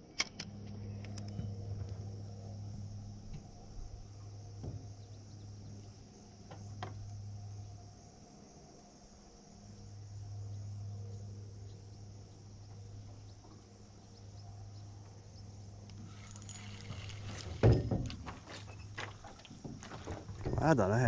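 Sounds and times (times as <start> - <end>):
faint high insect drone: 0.0 - 21.0
steady low hum: 0.0 - 21.0.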